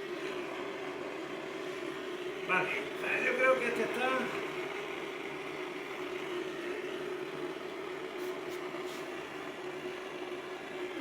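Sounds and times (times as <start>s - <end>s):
blowtorch flame hissing: 0.0s - 11.0s.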